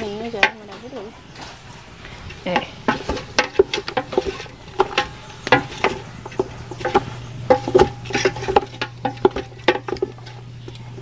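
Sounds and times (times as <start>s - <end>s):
wooden spoon scraping a metal pot: 1.3s - 11.0s.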